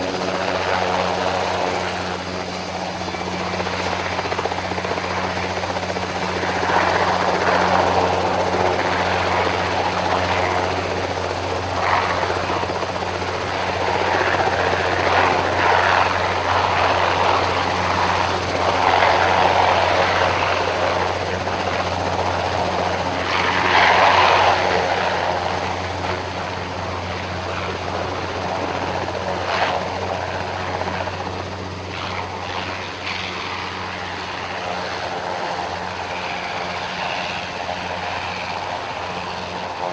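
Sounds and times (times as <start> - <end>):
helicopter rotor hum: 0.0 - 39.9.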